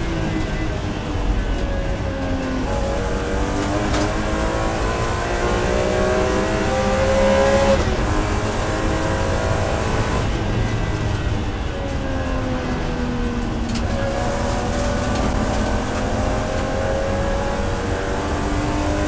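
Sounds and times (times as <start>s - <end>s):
race car engine at full throttle: 0.0s - 19.0s.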